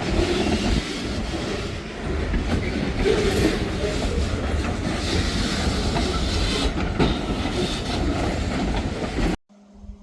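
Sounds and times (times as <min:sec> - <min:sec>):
freight train wheels clacking: 0:00.0 - 0:09.4.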